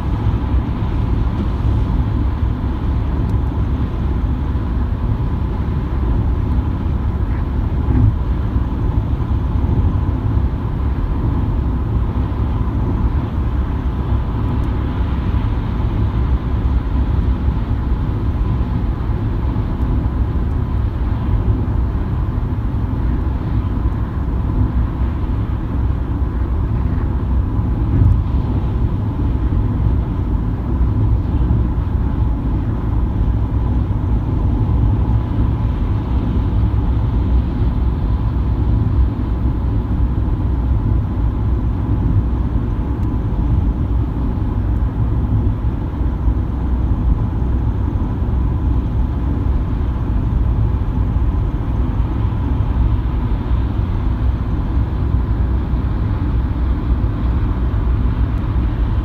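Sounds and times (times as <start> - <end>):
car cabin road rumble: 0.0 - 59.0.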